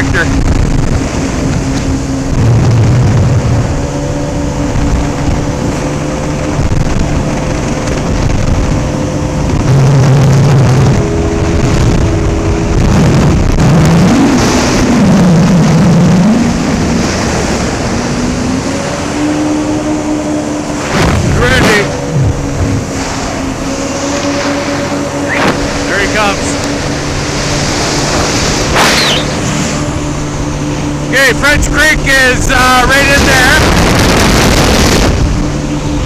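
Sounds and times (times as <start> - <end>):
personal watercraft engine running: 0.0 - 36.0.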